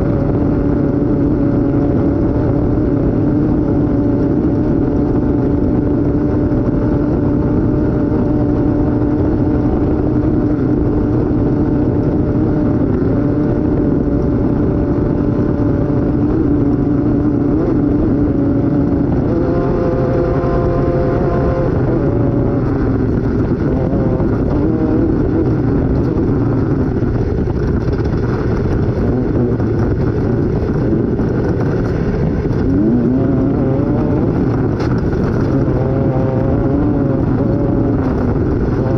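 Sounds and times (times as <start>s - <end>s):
constant heavy rumble: 0.0s - 38.9s
race vehicle engine running hard: 0.0s - 38.9s.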